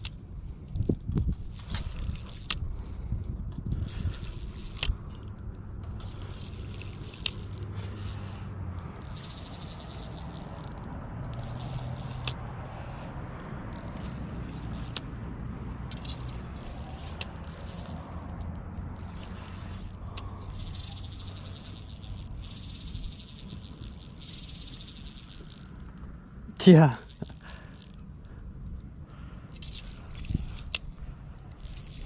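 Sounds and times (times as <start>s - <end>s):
fishing reel clicking: 0.0s - 15.3s, 15.9s - 26.0s, 26.8s - 32.0s.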